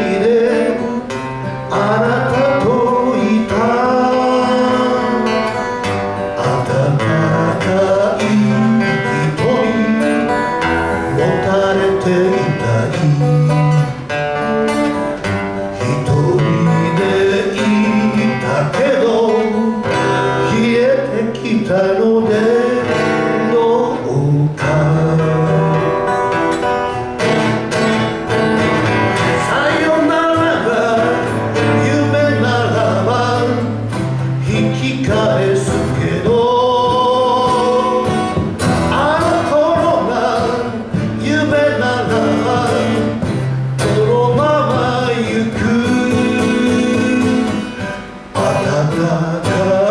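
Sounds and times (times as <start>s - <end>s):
person singing: 0.0s - 14.1s, 15.6s - 26.4s, 29.1s - 49.9s
acoustic guitars playing: 0.0s - 49.9s.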